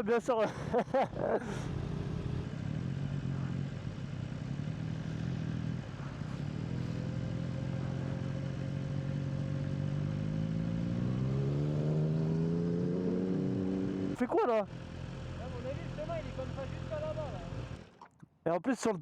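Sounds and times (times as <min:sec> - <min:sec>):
motorcycle engine running: 0:00.5 - 0:18.0.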